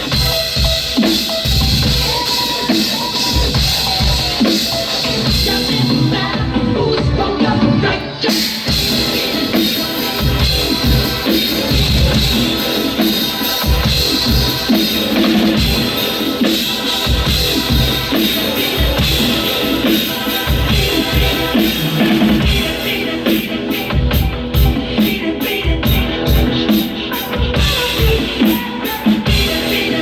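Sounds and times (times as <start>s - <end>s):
band playing music: 0.0s - 30.0s.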